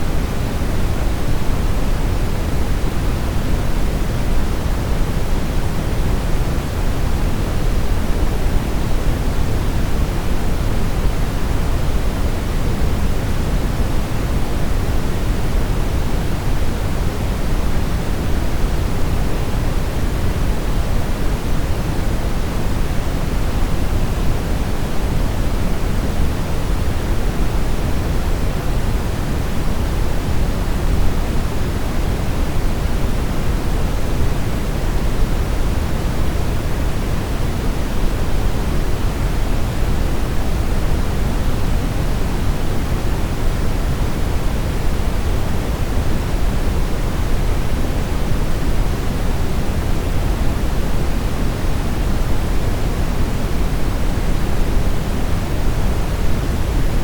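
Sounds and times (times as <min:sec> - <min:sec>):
brown noise hiss: 0:00.0 - 0:57.0.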